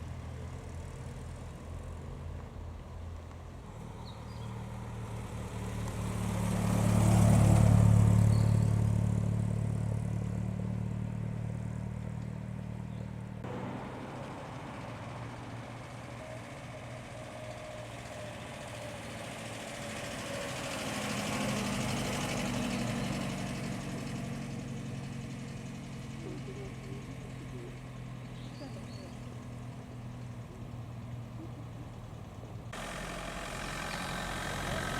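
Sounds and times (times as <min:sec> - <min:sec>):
cars driving past: 0:03.2 - 0:34.9.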